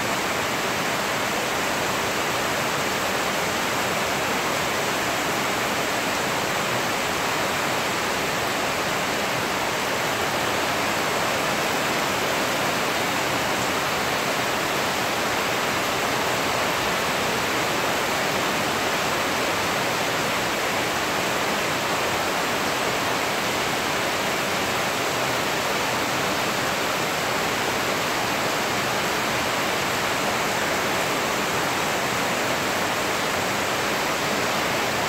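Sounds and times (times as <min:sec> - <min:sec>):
steady rain on pavement: 0:00.0 - 0:35.0.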